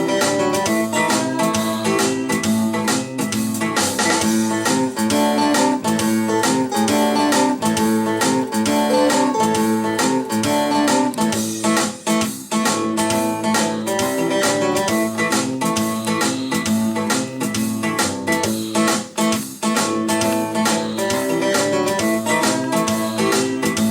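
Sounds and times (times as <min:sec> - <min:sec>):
blues guitar music: 0:00.0 - 0:23.9.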